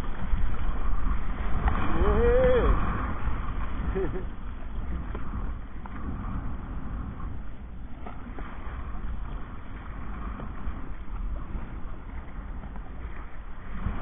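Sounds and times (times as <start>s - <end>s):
water splashing around hull: 0.0s - 14.0s
wind rumbling on microphone: 0.0s - 14.0s.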